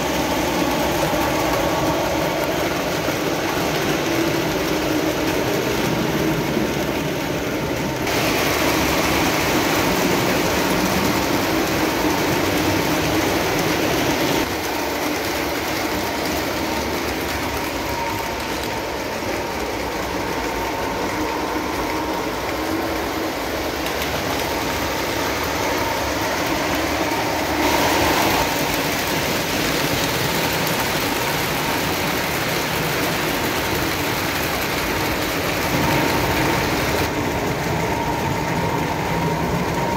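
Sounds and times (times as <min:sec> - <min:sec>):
model train motor hum: 0:00.0 - 0:39.9
wheels rolling over rails: 0:00.0 - 0:39.9.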